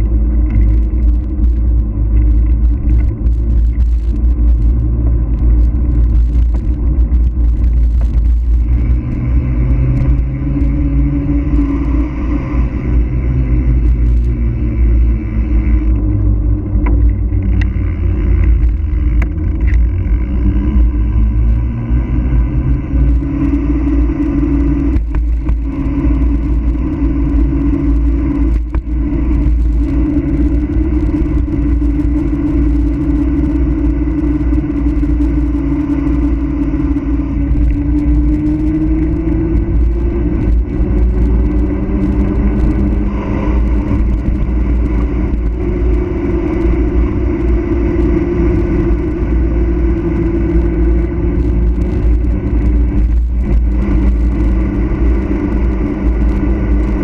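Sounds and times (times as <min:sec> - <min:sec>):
droning hum rising in pitch: 0:00.0 - 0:57.0
wind and tyre rumble: 0:00.0 - 0:57.0.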